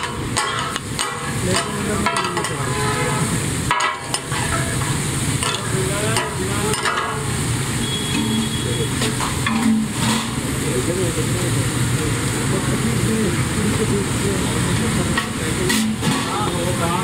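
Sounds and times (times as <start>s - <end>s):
meat sizzling on a hot pan: 0.0s - 17.0s
steam hissing: 0.0s - 17.0s.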